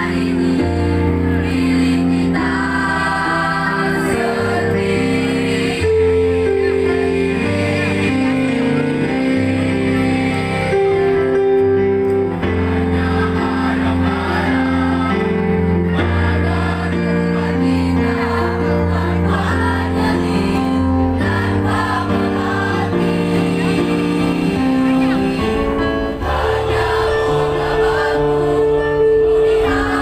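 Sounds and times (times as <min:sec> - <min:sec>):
children's choir singing in harmony: 0:00.0 - 0:30.0.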